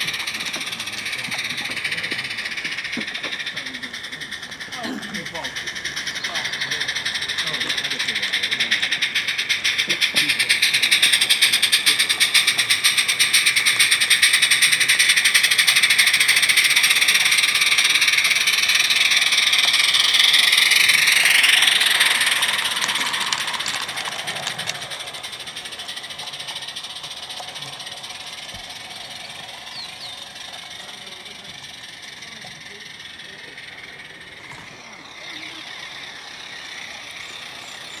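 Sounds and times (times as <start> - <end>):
steam locomotive chuffing: 0.0 - 38.0.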